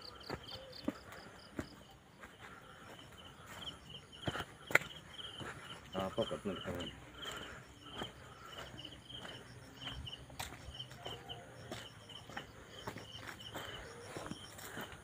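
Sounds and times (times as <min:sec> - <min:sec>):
footsteps on a dirt path: 0:00.0 - 0:15.0.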